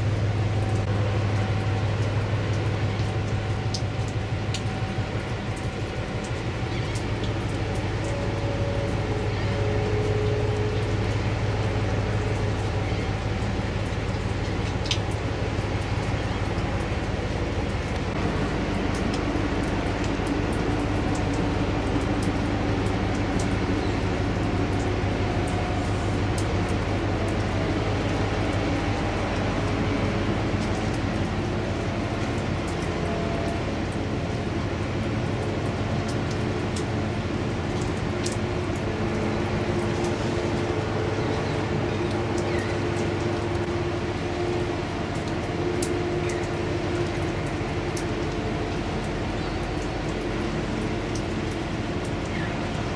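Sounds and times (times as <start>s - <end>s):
ship diesel engine drone: 0.0s - 52.9s.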